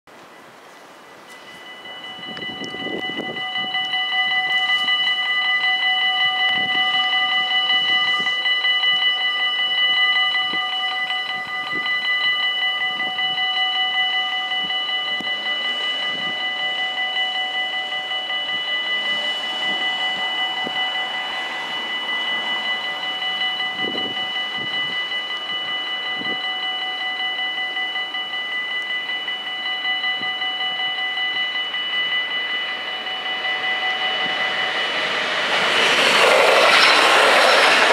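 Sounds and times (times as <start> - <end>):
level crossing bells ringing: 1.1 - 37.9.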